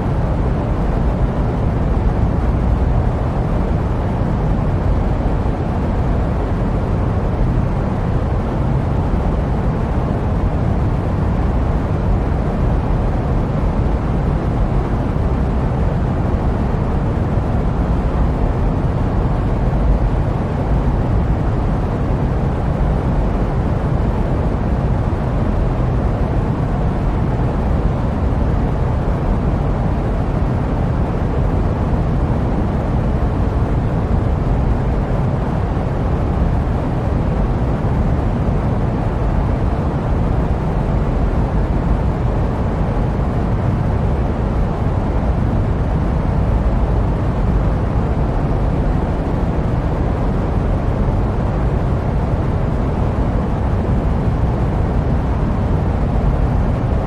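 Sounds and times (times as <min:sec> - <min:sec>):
jet aircraft rumble: 0:00.0 - 0:57.0.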